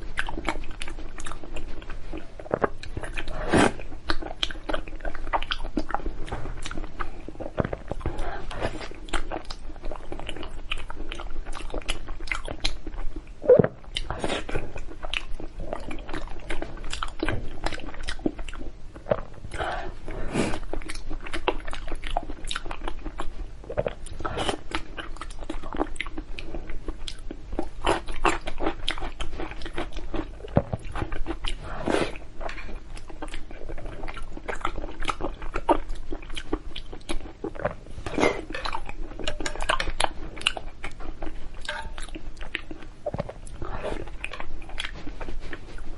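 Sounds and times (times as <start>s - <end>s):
chewing with wet mouth smacks: 0.0s - 45.9s.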